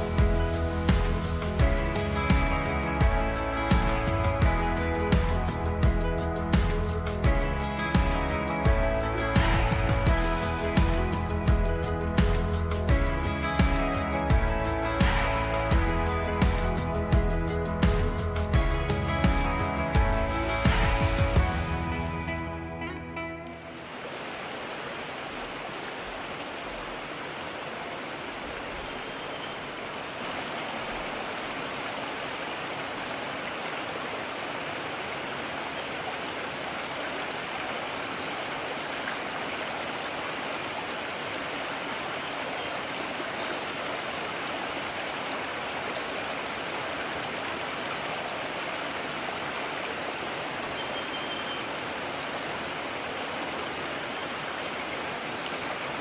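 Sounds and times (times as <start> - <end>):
stream rushing over rocks: 0.0 - 16.8, 23.5 - 56.0.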